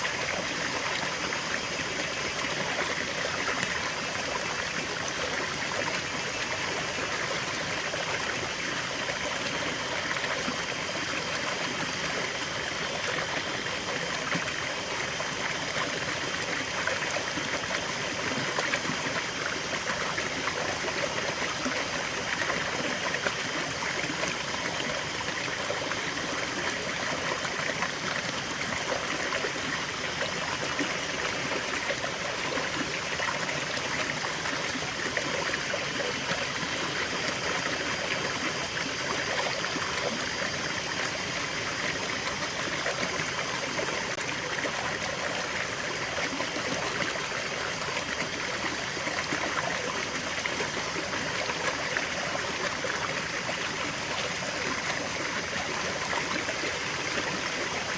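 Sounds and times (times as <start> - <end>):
stream gurgling over stones: 0.0 - 57.9.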